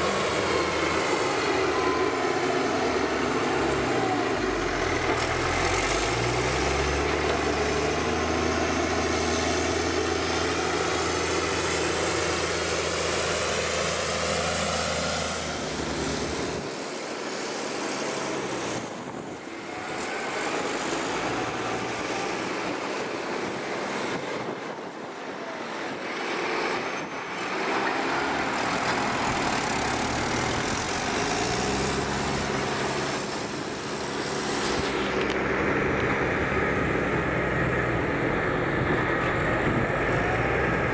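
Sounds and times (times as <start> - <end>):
tractor diesel engine: 0.0 - 40.9.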